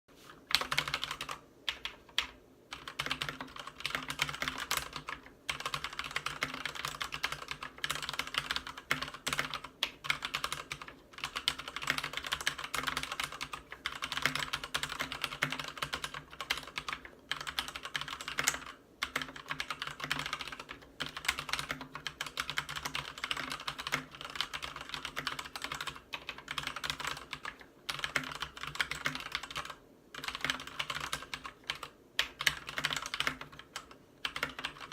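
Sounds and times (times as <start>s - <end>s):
mechanical keyboard typing: 0.5s - 34.9s.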